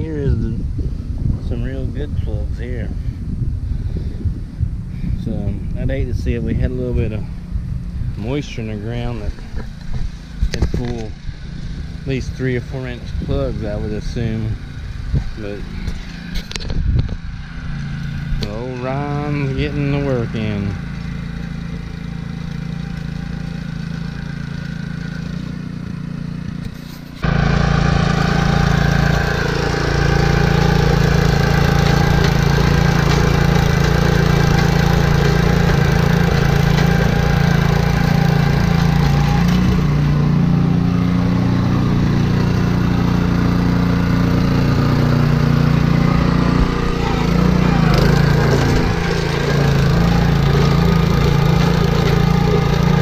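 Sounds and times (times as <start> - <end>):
small engine running under load: 0.0 - 53.0.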